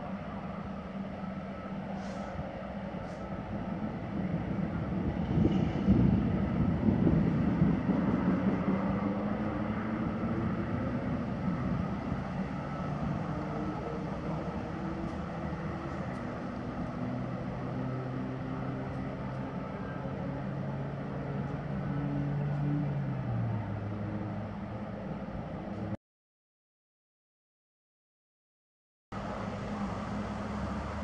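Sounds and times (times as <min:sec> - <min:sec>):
passing traffic engine hum: 0:00.0 - 0:26.0, 0:29.2 - 0:31.0.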